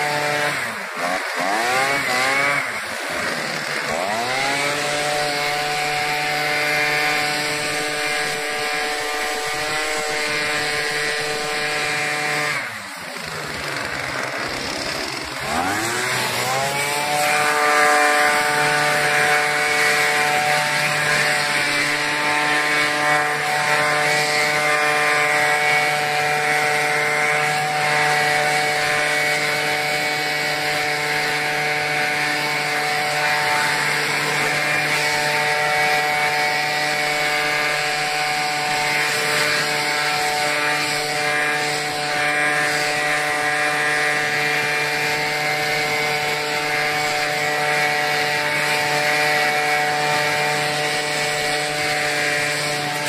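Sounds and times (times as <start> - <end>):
air rushing from blower nozzle: 0.0 - 53.0
leaf blower engine running: 0.0 - 53.0.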